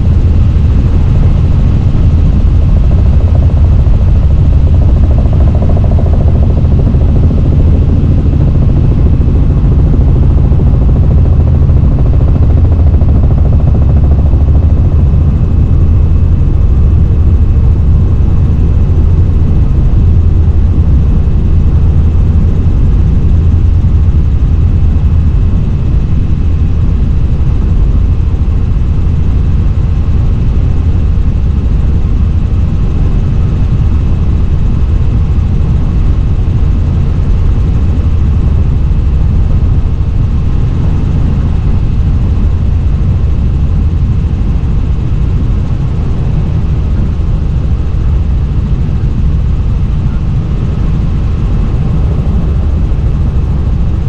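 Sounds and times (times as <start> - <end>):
helicopter rotor and engine rumble: 0.0 - 54.0.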